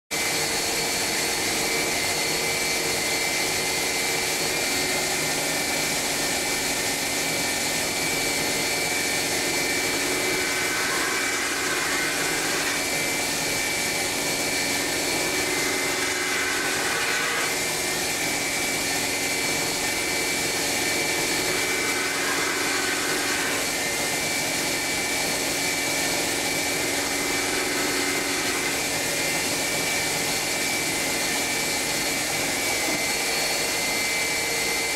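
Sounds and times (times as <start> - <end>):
grinding machine whine: 0.2 - 34.9.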